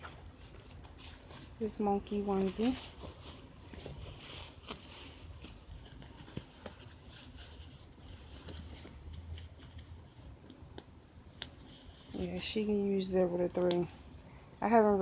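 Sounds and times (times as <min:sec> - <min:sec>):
fabric rustling: 0:00.0 - 0:10.5, 0:11.4 - 0:15.0.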